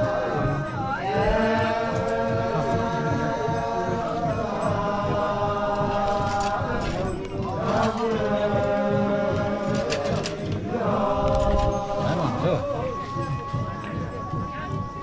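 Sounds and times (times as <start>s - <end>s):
group chanting: 0.0s - 14.4s.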